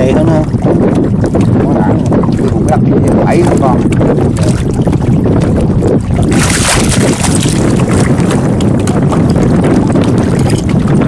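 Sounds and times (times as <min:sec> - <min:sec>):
boat motor running: 0:00.0 - 0:11.0
wind buffeting microphone: 0:00.0 - 0:11.0
fish splashing in water: 0:00.5 - 0:11.0.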